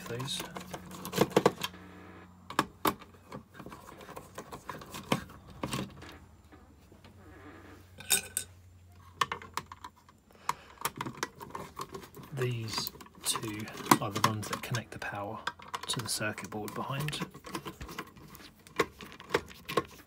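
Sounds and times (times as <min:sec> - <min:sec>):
handling noise: 0:00.0 - 0:20.0.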